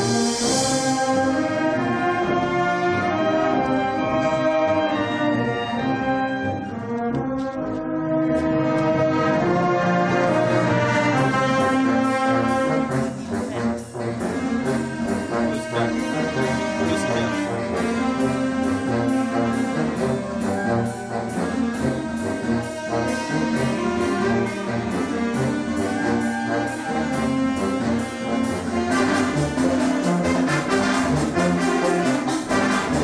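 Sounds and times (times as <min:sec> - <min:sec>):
wind band playing: 0:00.0 - 0:33.0.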